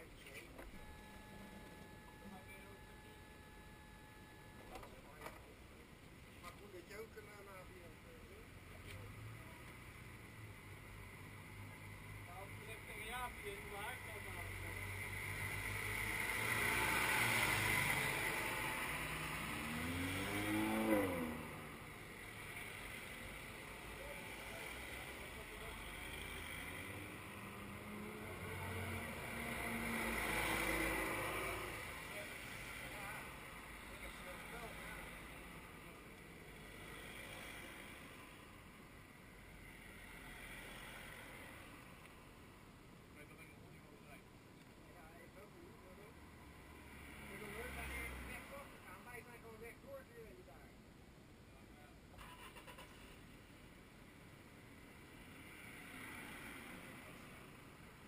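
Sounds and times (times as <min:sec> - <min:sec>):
cars driving past: 0:06.5 - 0:44.2, 0:44.9 - 0:50.7, 0:52.1 - 0:58.0.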